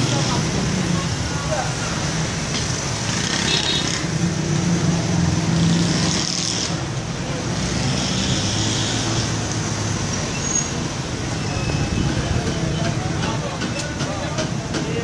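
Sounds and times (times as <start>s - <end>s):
road traffic engines: 0.0s - 15.0s.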